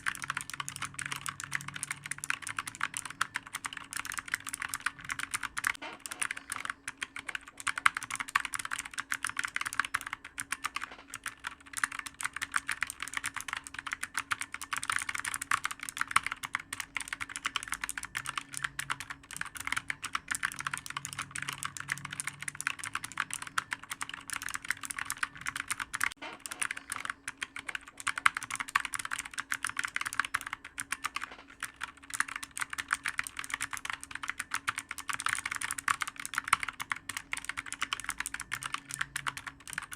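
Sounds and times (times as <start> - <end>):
fast typing on clicky keyboard: 0.0 - 39.9.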